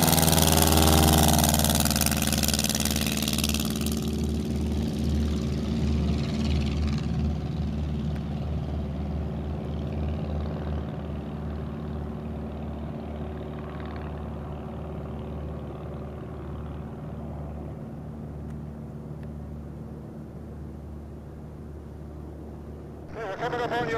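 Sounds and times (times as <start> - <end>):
airplane piston engine droning: 0.0 - 23.9.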